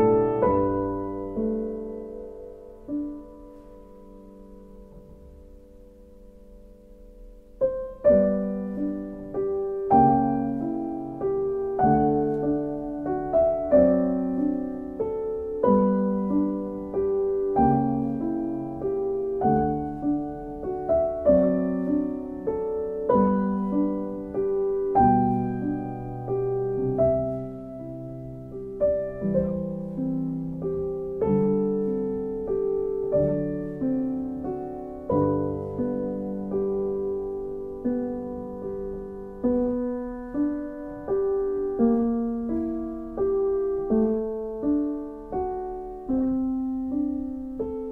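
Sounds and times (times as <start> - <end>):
slow piano chords: 0.0 - 47.9.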